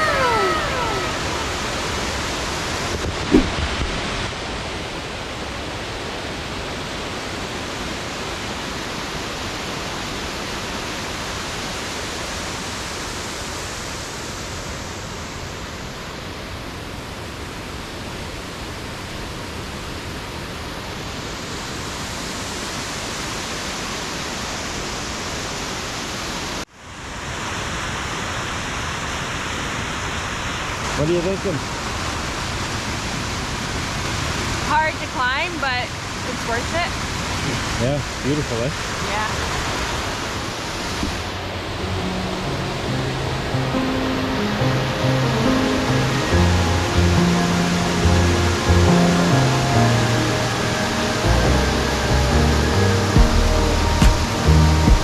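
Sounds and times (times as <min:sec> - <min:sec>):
waterfall rushing: 0:00.0 - 0:26.6, 0:27.2 - 0:55.0.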